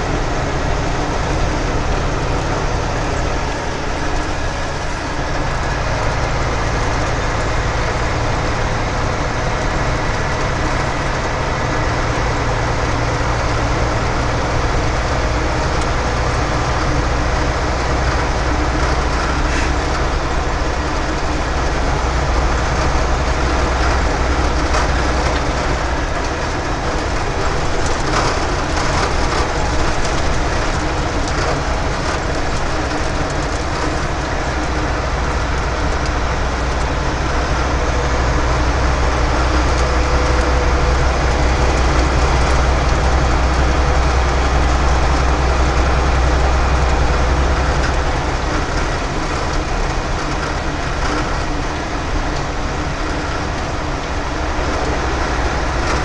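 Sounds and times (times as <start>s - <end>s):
road and wind noise: 0.0s - 56.0s
truck engine droning: 0.0s - 56.0s.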